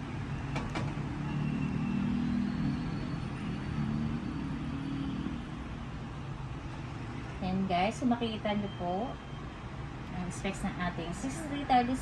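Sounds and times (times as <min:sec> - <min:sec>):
engine running low rumble: 0:00.0 - 0:12.0.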